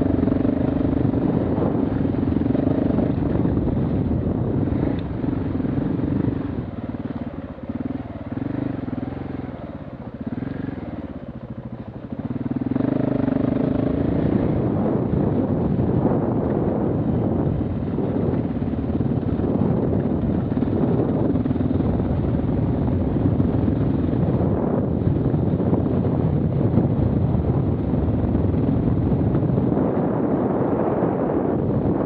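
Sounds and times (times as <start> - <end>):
motorcycle engine running: 0.0 - 32.0
wind noise on microphone: 0.0 - 32.0.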